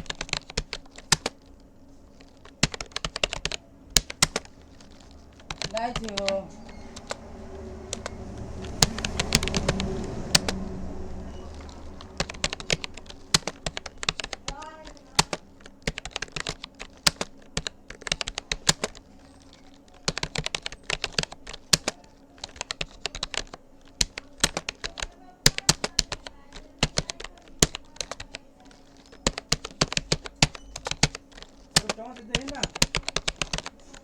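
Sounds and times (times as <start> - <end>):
keyboard key clicks: 0.0 - 1.5, 2.2 - 7.2, 11.5 - 34.0.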